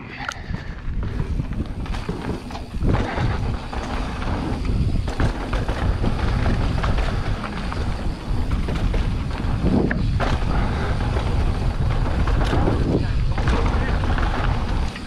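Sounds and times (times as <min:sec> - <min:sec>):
bike rattling: 0:00.0 - 0:15.0
wind rumbling on microphone: 0:00.0 - 0:15.0
tyres rolling over dirt: 0:00.4 - 0:15.0.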